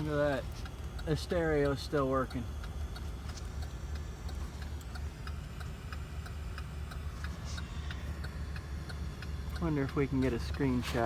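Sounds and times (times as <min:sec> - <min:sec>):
low steady hum: 0:00.0 - 0:11.0
rapid even ticking: 0:00.0 - 0:11.0.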